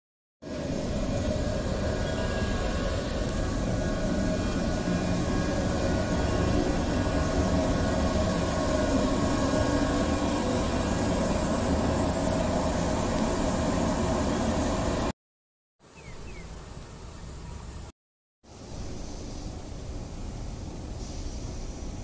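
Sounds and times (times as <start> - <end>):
train equipment hum and hiss: 0.4 - 15.1, 16.0 - 17.9, 18.5 - 22.0.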